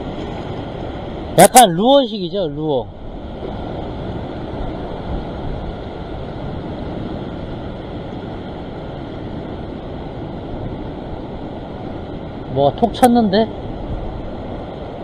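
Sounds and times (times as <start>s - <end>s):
ocean surf against rocks: 0.0s - 15.0s
wind rumbling on microphone: 0.0s - 15.0s.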